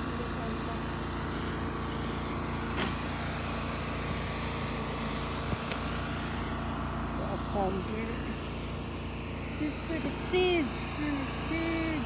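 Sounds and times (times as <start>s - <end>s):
small motor droning: 0.0s - 12.0s.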